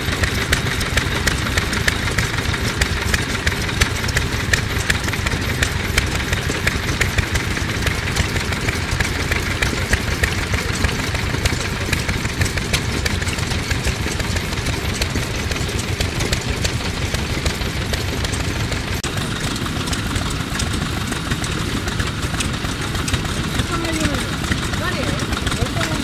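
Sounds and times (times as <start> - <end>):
rope machine gears turning: 0.0 - 26.0
stationary engine running: 0.0 - 26.0.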